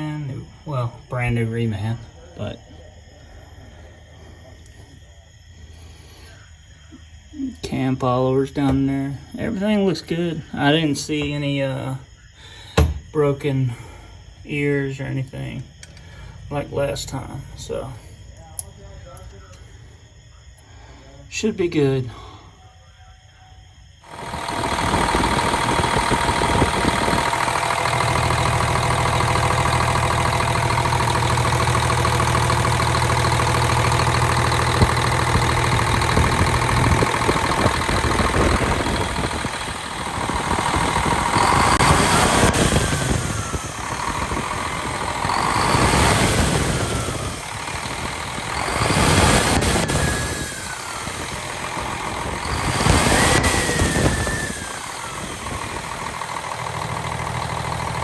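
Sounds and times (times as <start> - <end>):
diesel truck engine idling and revving: 0.0 - 20.7, 23.7 - 58.0.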